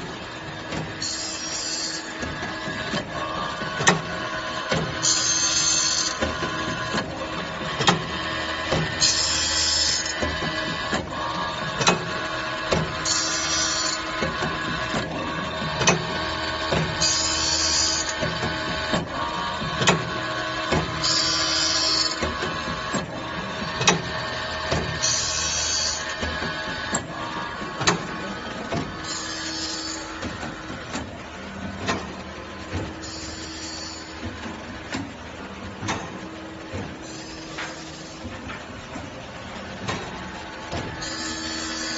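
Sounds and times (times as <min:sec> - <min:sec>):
steady motor hum: 0:00.0 - 0:41.9.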